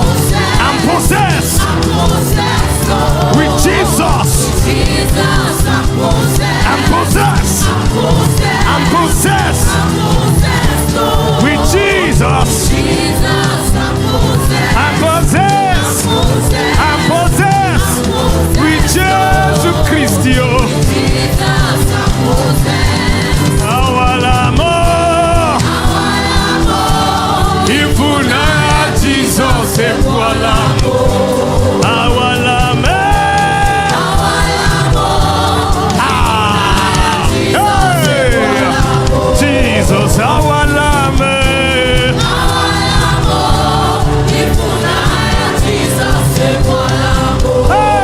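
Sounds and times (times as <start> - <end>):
band with steady beat: 0.0 - 48.0
singers holding long notes: 0.0 - 48.0.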